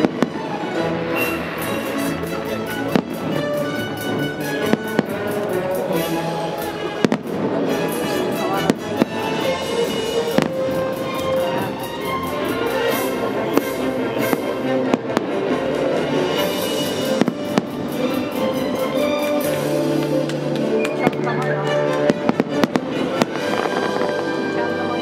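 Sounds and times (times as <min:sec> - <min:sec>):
fireworks bangs: 0:00.0 - 0:24.4
show music: 0:00.0 - 0:25.0.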